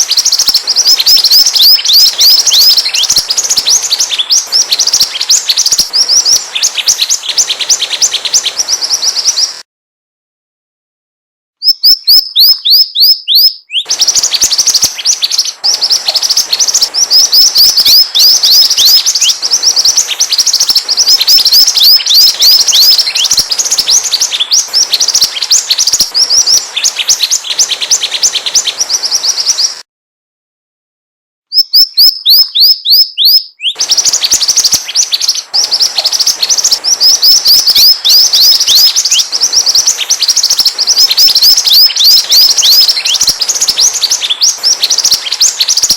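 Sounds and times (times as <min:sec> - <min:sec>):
recorded bird song chirps: 0:00.0 - 0:09.7, 0:11.6 - 0:29.9, 0:31.5 - 0:45.9.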